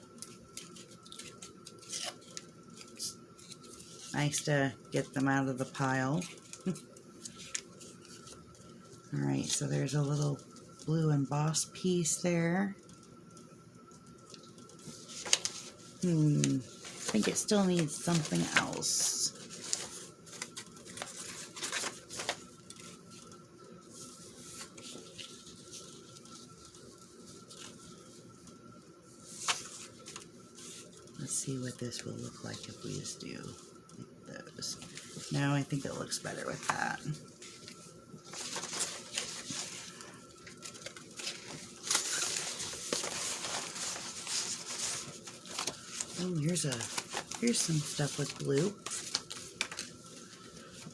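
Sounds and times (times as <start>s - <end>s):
paper rustling: 0.1s - 11.2s, 14.2s - 50.9s.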